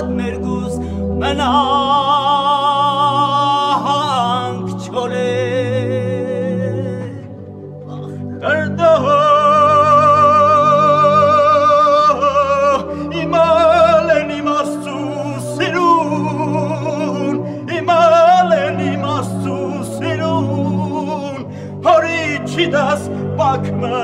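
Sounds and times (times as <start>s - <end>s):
low sustained accompaniment: 0.0s - 24.0s.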